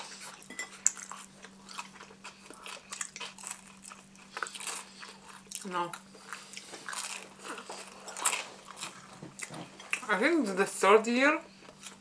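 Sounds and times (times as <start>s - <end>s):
chewing pizza crunches: 0.0s - 10.1s
faint steady hum: 0.0s - 12.0s.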